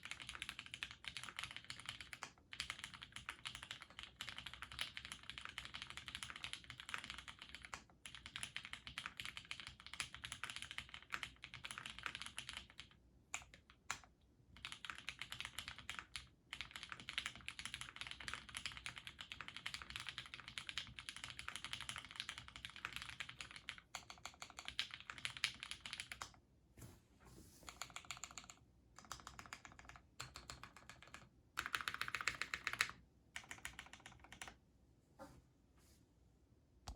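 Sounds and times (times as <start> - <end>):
mechanical keyboard typing: 0.0 - 26.4, 27.7 - 34.6.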